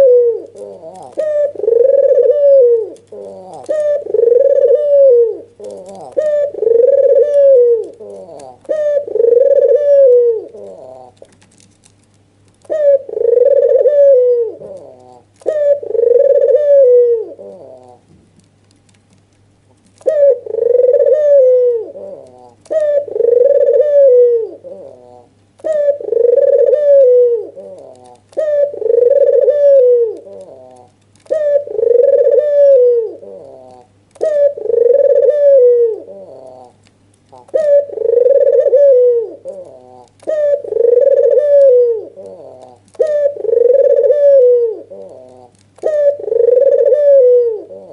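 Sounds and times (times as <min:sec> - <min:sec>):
dove cooing: 0:00.0 - 0:11.6, 0:12.6 - 0:18.1, 0:20.0 - 0:47.9.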